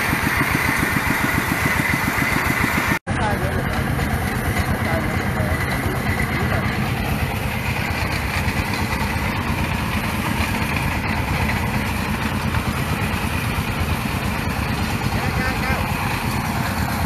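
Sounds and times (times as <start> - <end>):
small engine running steadily: 0.0 - 17.0.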